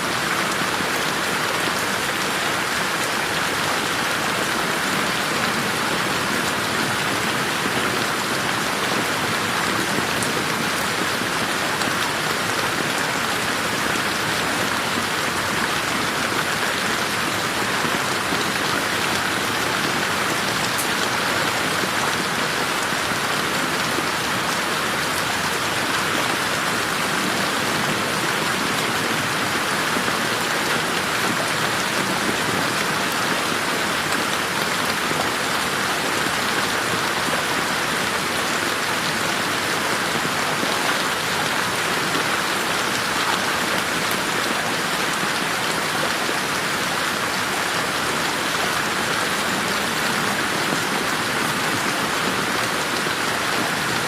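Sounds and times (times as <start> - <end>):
rain pattering on leaves: 0.1 - 54.0.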